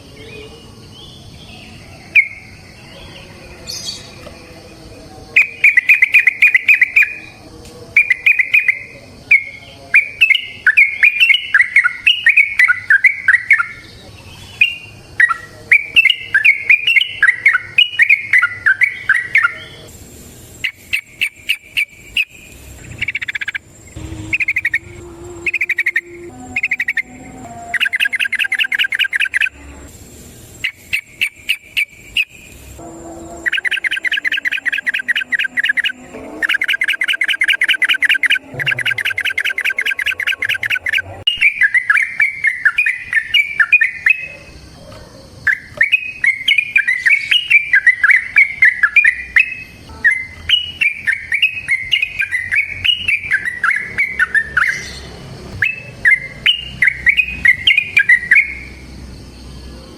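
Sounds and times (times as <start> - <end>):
bulbul singing: 0.0 - 19.9, 20.5 - 59.9.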